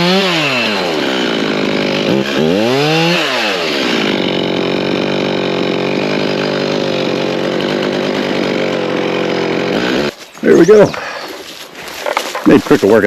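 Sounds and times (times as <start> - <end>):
chainsaw cutting branches: 0.0 - 10.8.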